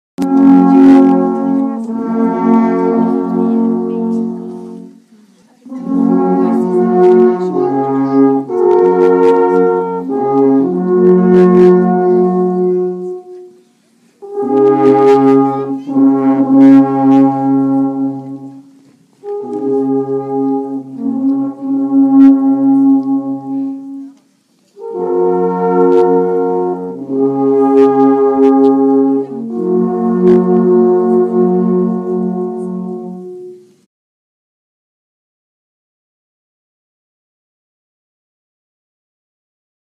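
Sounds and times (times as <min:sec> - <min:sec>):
alphorn playing held notes: 0:00.2 - 0:13.6, 0:14.2 - 0:24.2, 0:24.8 - 0:33.8.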